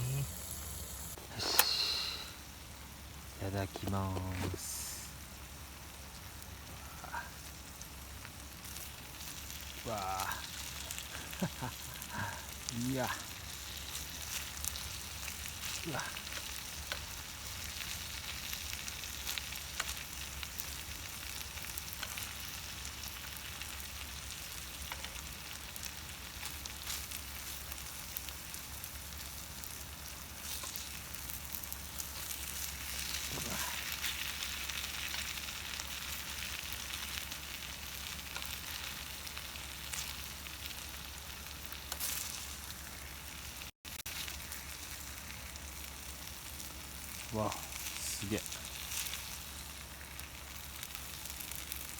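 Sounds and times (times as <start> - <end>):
food sizzling on a griddle: 0.0 - 51.9.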